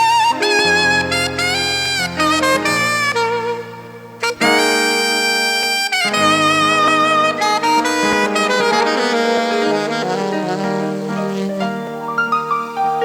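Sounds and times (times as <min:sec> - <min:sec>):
saxophone slow melody: 0:00.0 - 0:13.0
sustained keyboard chords: 0:00.0 - 0:13.0.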